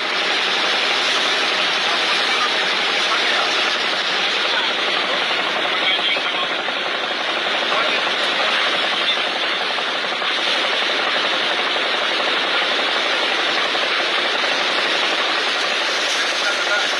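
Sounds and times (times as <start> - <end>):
boat engine running: 0.0 - 16.9.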